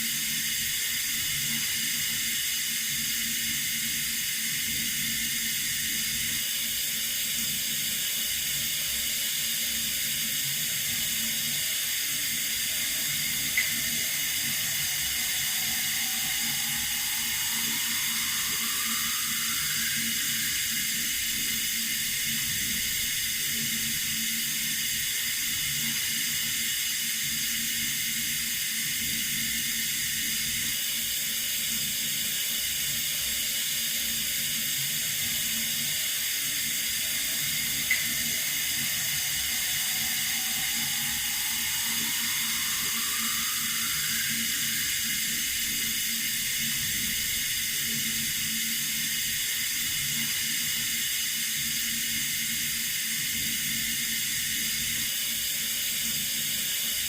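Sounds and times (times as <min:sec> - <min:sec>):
faint rising whine: 0:00.0 - 0:31.7, 0:33.2 - 0:57.0
water running from tap: 0:00.1 - 0:30.7, 0:34.4 - 0:56.0.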